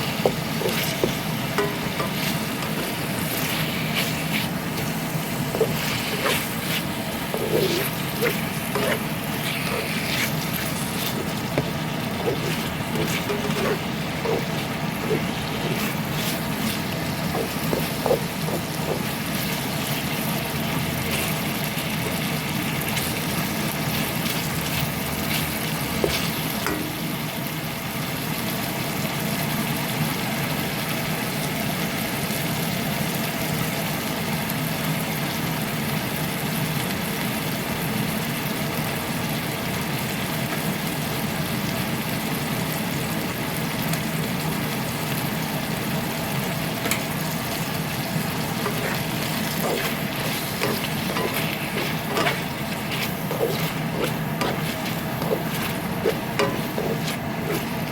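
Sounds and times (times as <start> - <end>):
stovetop cooking hum and hiss: 0.0 - 57.9.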